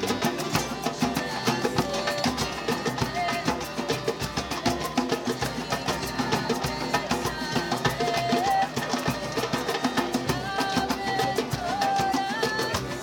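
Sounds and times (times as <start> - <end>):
acoustic guitars strumming: 0.0 - 13.0
djembe rhythm: 0.0 - 13.0.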